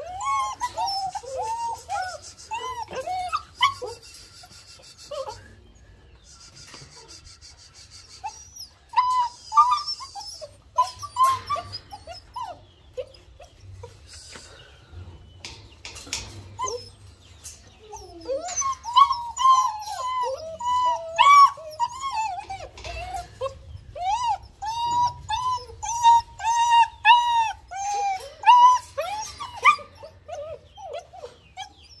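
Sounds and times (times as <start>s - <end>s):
puppies whimpering and whining: 0.0s - 32.0s.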